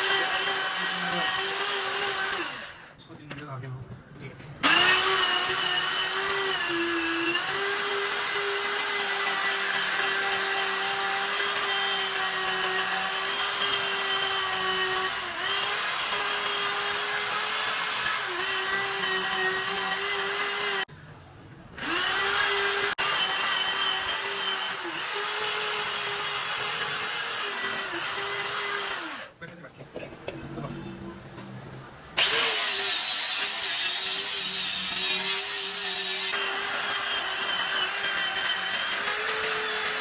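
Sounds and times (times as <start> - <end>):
power tool motor whining: 0.0 - 2.9, 4.6 - 20.9, 21.8 - 29.3, 32.2 - 40.0.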